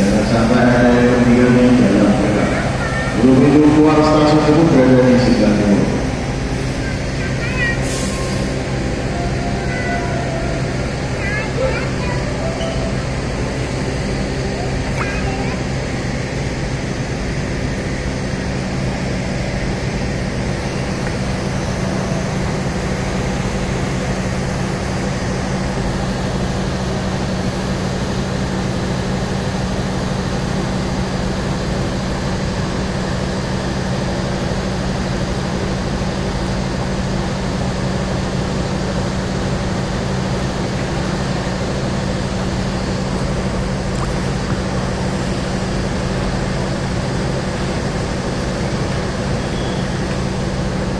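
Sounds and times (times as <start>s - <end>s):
diesel train engine idling: 0.0s - 50.9s.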